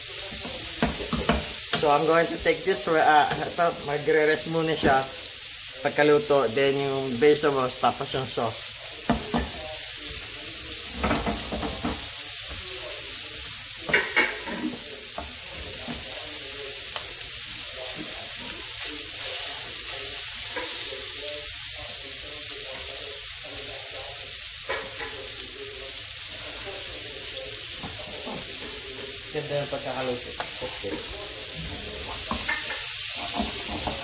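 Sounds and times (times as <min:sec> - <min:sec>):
fish sizzling in a frying pan: 0:00.0 - 0:34.0.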